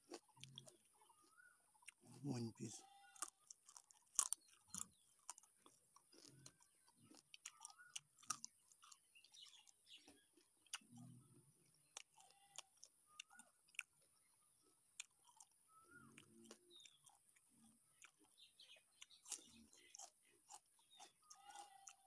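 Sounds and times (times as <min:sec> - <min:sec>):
biting and chewing: 0:00.0 - 0:22.0
mouth clicks and crunches: 0:00.0 - 0:22.0.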